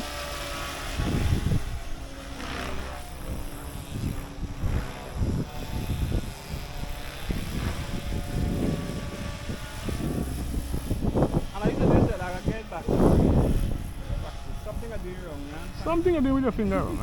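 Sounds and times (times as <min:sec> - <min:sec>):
rc helicopter rotor drone: 0:00.0 - 0:17.0.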